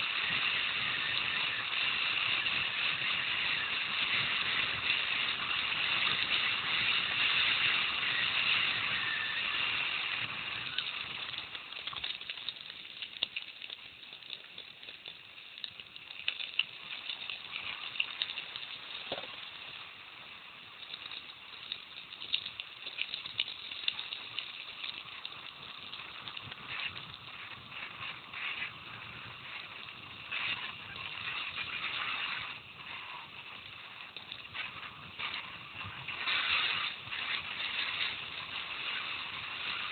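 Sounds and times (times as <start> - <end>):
bike rattles and clicks: 0.0 - 19.8, 20.6 - 39.9
bike tyres on gravel: 0.0 - 39.9.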